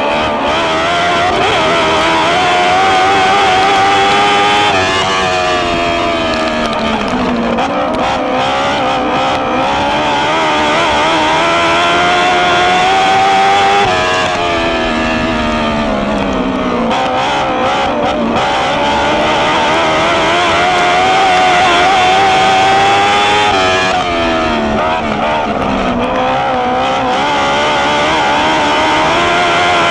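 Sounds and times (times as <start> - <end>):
racing car engine revving: 0.0 - 29.9.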